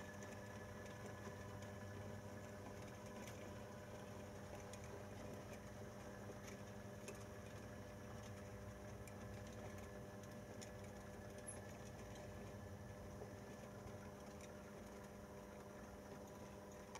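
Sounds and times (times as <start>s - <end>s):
wheels clicking on track: 0.0s - 16.9s.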